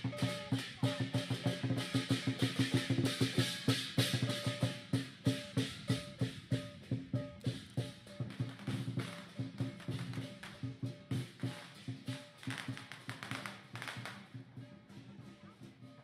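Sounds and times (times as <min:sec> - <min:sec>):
drum beating: 0:00.0 - 0:16.0.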